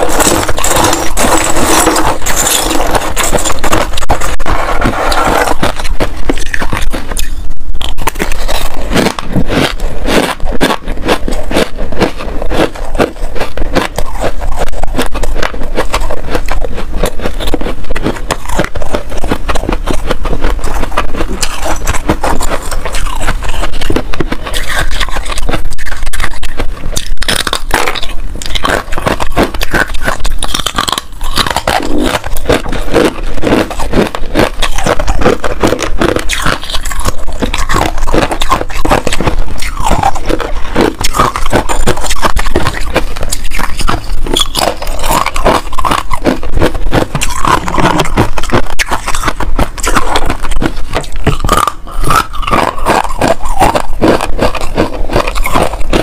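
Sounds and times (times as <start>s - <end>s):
ice crunching between teeth: 0.0s - 56.0s
metal spoon scraping ice: 0.0s - 56.0s.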